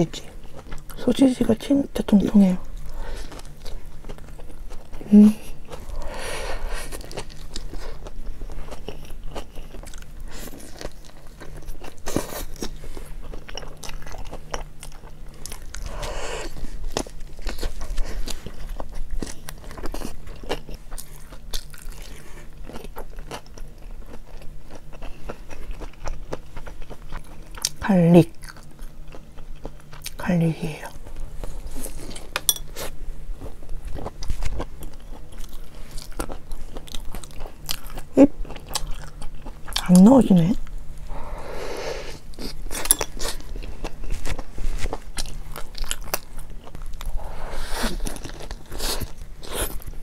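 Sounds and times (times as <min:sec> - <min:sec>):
chewing crunches and mouth clicks: 0:00.1 - 0:01.2, 0:02.6 - 0:30.2, 0:30.8 - 0:40.8, 0:42.2 - 0:50.0.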